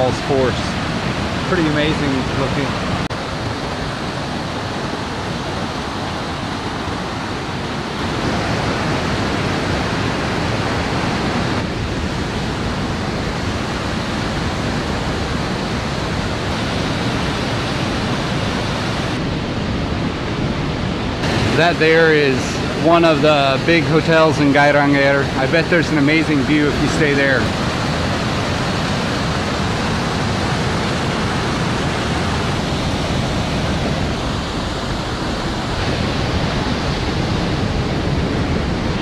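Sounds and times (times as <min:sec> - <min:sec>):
waterfall rushing over boulders: 0:00.0 - 0:19.6, 0:21.1 - 0:39.0.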